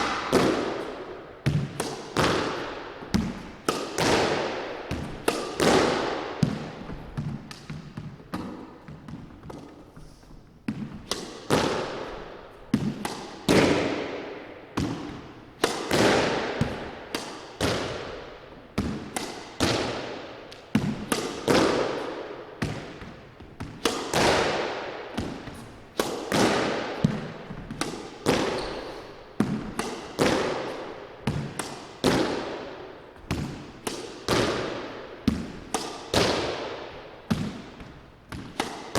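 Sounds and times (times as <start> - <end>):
racket striking squash ball: 0.0 - 38.9
squash ball hitting wall: 0.0 - 38.9.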